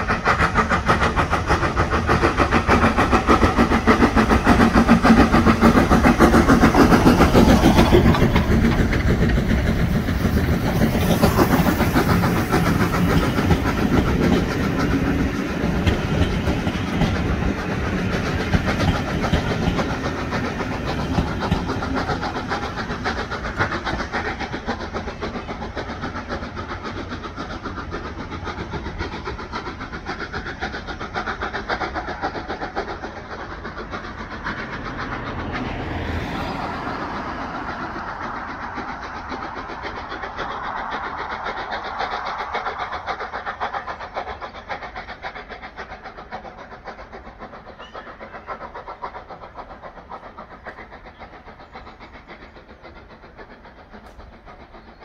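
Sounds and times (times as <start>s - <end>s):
steam locomotive exhaust: 0.0s - 55.0s
train wheels on rails: 0.0s - 55.0s.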